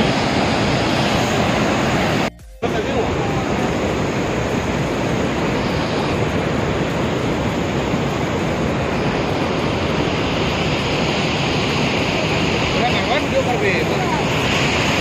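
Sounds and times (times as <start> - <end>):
waterfall and rapids rushing: 0.0 - 15.0.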